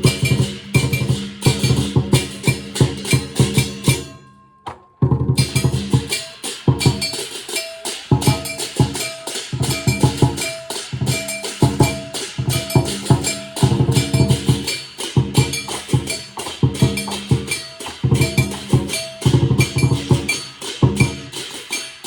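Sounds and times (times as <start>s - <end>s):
big drum beaten rapidly: 0.0s - 4.2s, 5.0s - 22.0s
cymbals and gong crashing: 0.0s - 4.3s, 5.4s - 22.0s.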